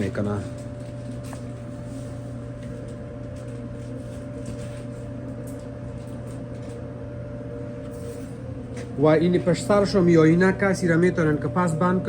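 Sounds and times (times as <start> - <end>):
clothes dryer humming: 0.0 - 12.0.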